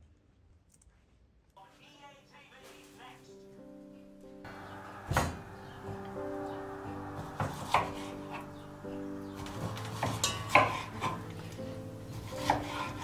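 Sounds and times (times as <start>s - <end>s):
soft background music: 1.6s - 13.0s.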